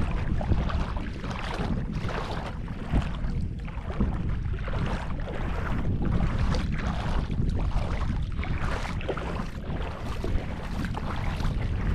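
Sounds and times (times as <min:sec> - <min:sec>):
sea rushing: 0:00.0 - 0:11.9
wind buffeting microphone: 0:00.0 - 0:11.9.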